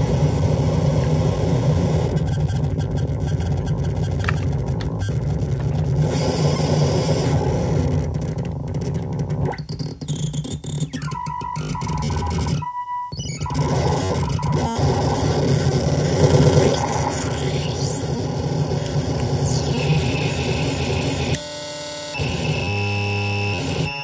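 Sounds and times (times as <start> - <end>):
analog synthesizer noisy drone: 0.0 - 24.0.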